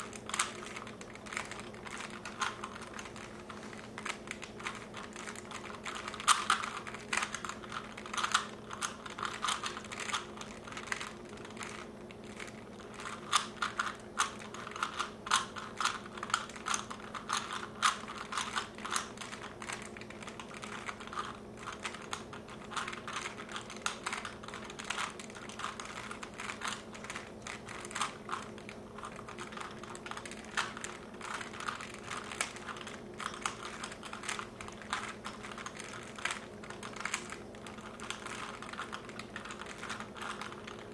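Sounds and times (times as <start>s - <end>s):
faint steady hum: 0.0s - 40.9s
puzzle cube plastic clicking: 0.0s - 40.9s.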